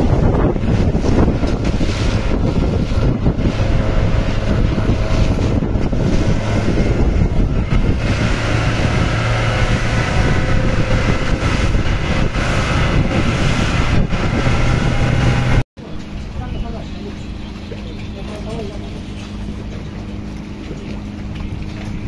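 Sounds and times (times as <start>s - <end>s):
boat engine humming: 0.0s - 22.0s
wind buffeting microphone: 0.0s - 22.0s.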